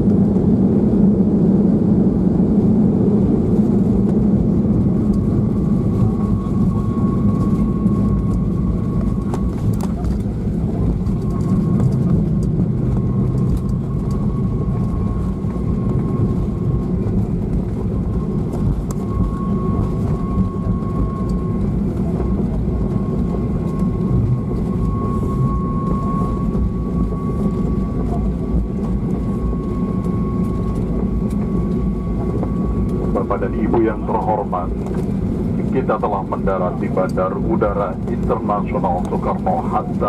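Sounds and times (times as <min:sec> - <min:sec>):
jet engine rumble in cabin: 0:00.0 - 0:40.0.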